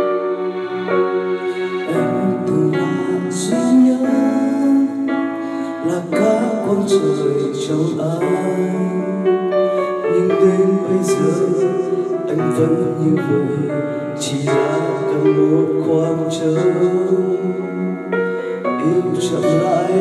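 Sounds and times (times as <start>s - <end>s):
karaoke pop ballad backing track: 0.0s - 20.0s
person singing: 0.0s - 20.0s.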